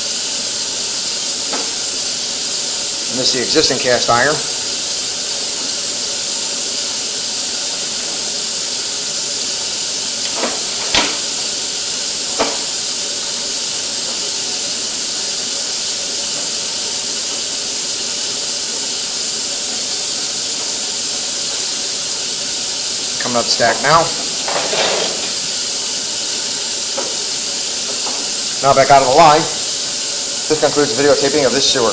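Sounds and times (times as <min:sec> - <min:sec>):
steady hiss: 0:00.0 - 0:31.9.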